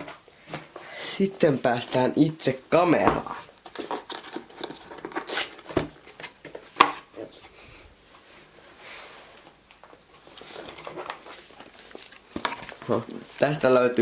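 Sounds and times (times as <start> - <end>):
cardboard and plastic packaging handled: 0.0 - 7.6, 9.2 - 14.0.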